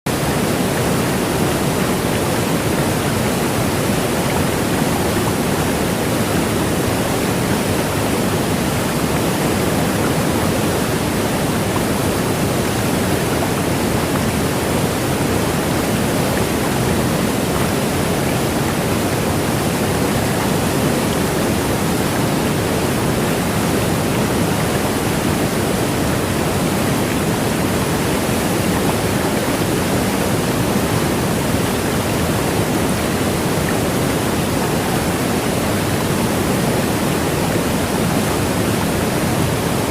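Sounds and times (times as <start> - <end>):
rushing water: 0.1 - 39.9.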